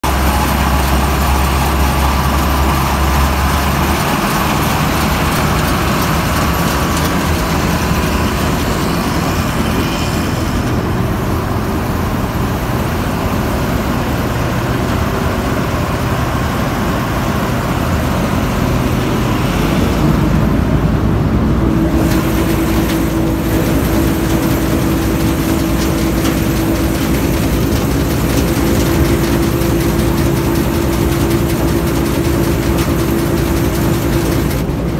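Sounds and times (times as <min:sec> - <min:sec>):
combine harvester engine running: 0:00.0 - 0:34.9.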